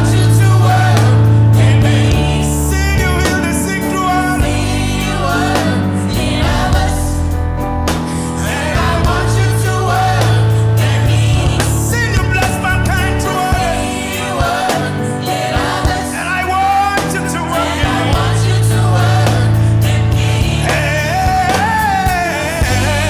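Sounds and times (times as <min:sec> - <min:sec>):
person singing worship song: 0:00.0 - 0:07.2, 0:08.1 - 0:23.0
band accompaniment: 0:00.0 - 0:23.0
sustained bass: 0:00.0 - 0:23.0.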